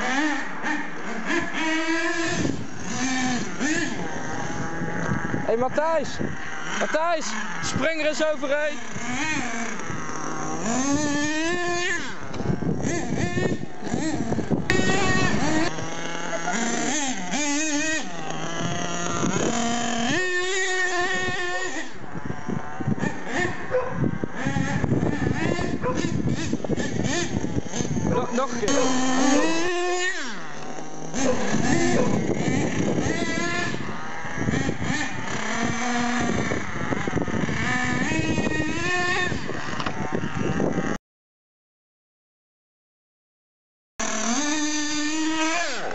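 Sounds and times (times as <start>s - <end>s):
small two-stroke engine revving: 0.0s - 41.0s, 44.0s - 45.9s.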